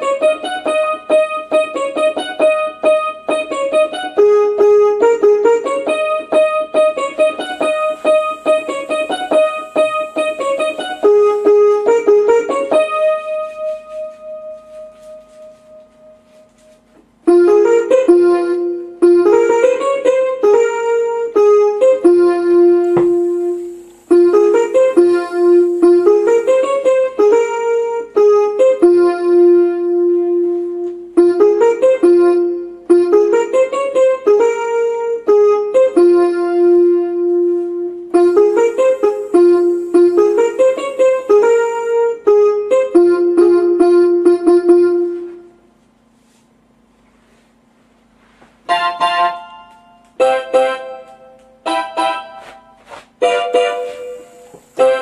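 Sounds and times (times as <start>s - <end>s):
electronic keyboard melody: 0.0s - 45.7s, 48.6s - 55.0s.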